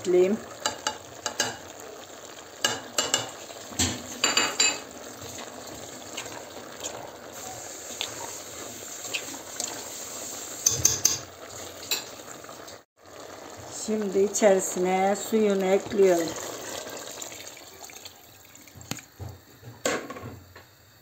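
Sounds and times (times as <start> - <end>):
pot sizzling: 0.0 - 21.0.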